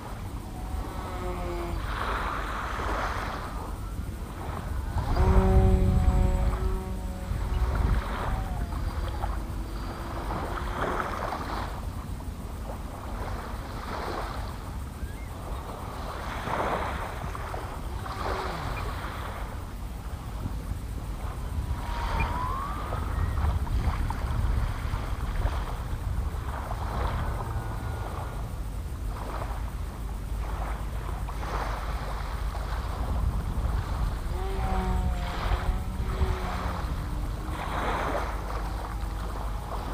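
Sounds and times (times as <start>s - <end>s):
faint droning tone: 0.0s - 39.9s
small waves washing onto beach: 0.0s - 39.9s
wind rumbling on microphone: 0.0s - 39.9s.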